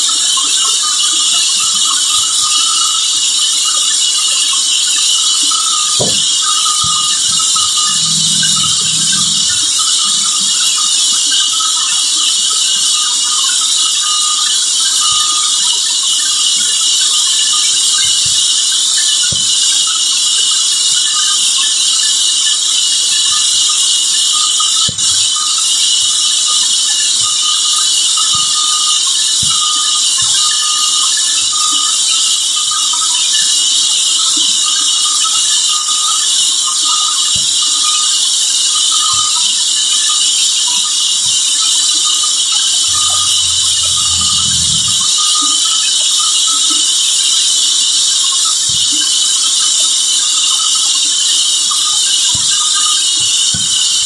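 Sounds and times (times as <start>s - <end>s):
saw squeal: 0.0s - 54.0s.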